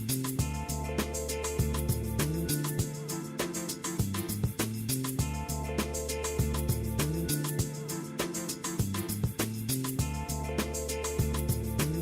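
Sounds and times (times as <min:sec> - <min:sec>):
upbeat music with guitar and drums: 0:00.0 - 0:12.0.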